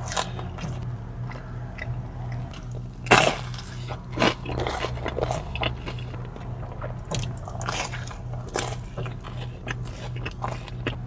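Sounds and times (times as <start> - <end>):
person chewing crunchy food: 0.0 - 11.0
steady low hum: 0.0 - 11.0.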